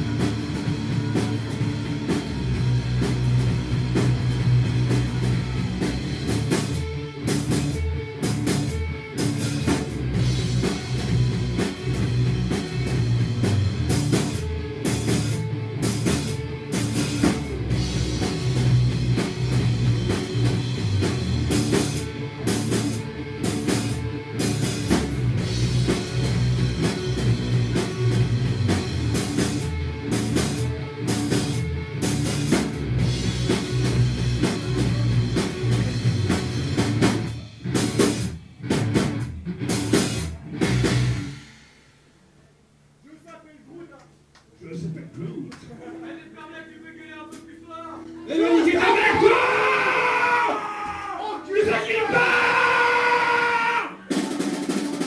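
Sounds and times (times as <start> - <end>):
rock band playing live: 0.0 - 41.9, 47.3 - 55.0.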